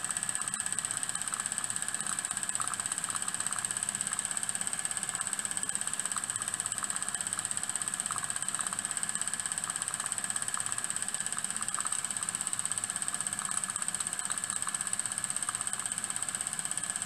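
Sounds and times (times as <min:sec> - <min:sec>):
small clicks: 0:00.1 - 0:17.0.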